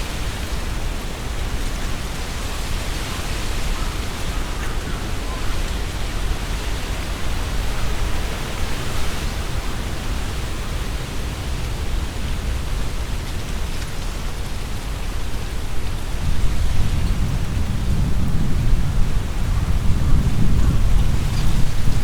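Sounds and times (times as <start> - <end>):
leaves rustling in wind: 0.0 - 22.0
wind buffeting microphone: 0.0 - 22.0.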